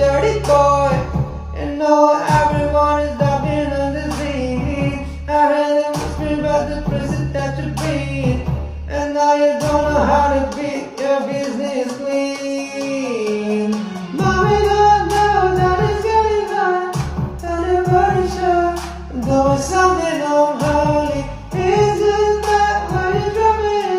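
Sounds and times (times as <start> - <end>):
deep synth bass: 0.0 - 10.8, 14.0 - 23.9
pop song vocals: 0.0 - 23.9.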